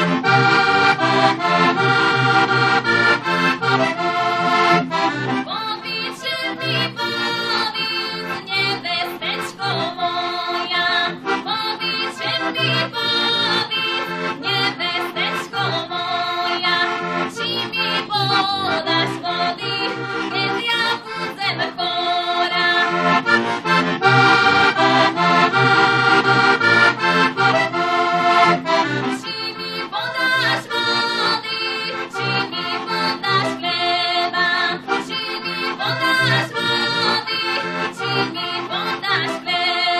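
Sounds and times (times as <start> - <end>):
button accordion folk tune: 0.0 - 39.9.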